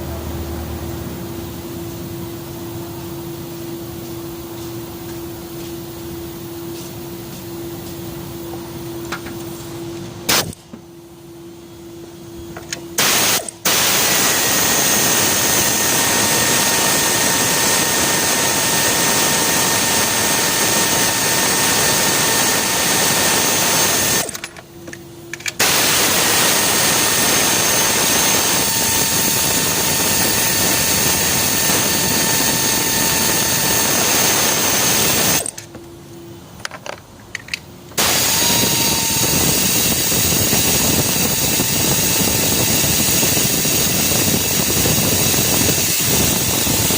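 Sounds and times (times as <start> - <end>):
workshop tool hissing: 1.2 - 10.7, 12.4 - 24.5, 25.4 - 35.6, 37.9 - 46.9.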